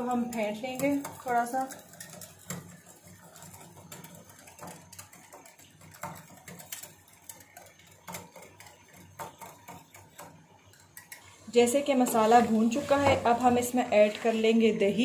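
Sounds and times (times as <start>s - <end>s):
whisk clicking against glass bowl: 0.0s - 12.2s.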